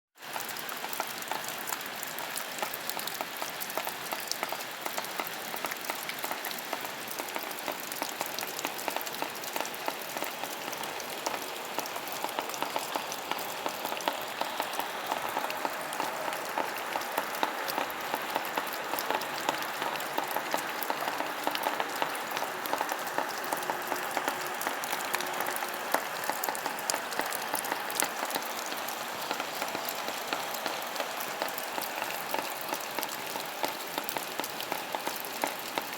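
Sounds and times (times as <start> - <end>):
steady rain falling: 0.2 - 35.9.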